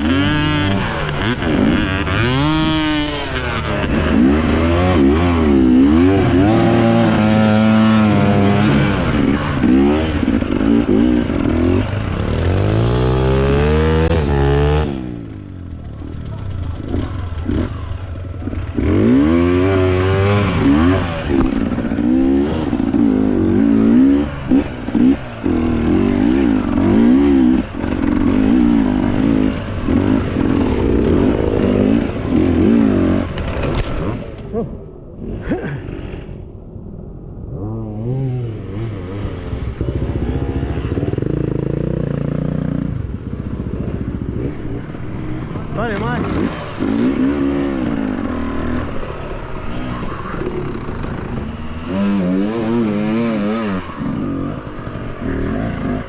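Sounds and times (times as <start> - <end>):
dirt bike engine revving: 0.0 - 34.4, 37.4 - 56.0.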